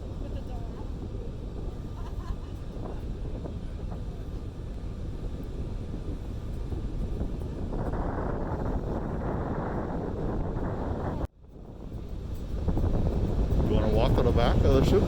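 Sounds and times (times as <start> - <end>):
ferry engine rumble: 0.0 - 15.0
wind on microphone: 0.0 - 15.0.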